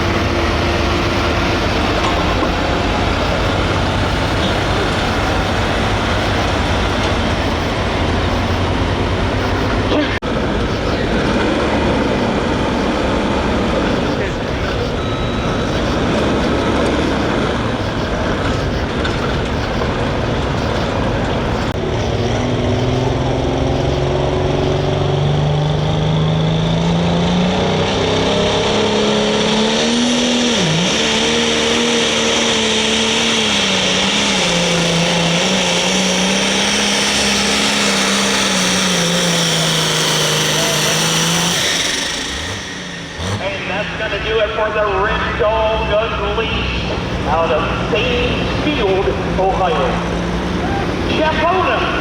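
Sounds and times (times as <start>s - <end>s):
tractor engine roaring under load: 0.0s - 52.0s.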